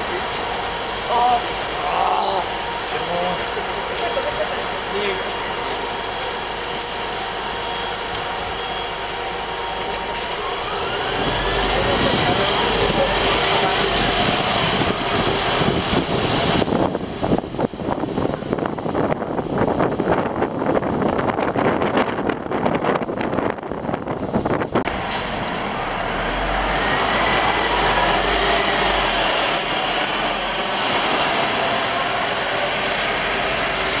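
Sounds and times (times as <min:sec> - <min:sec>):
bus engine hum and hiss: 0:00.0 - 0:34.0
bus engine whine: 0:00.0 - 0:34.0
traffic noise: 0:00.0 - 0:34.0.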